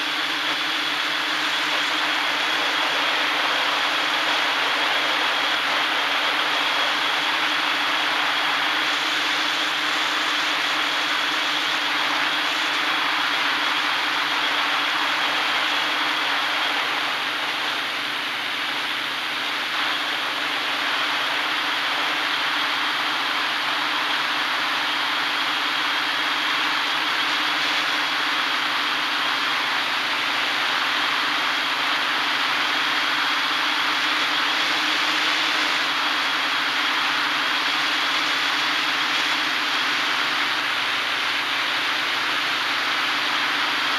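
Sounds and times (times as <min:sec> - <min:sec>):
drone motors and propellers: 0:00.0 - 0:43.9.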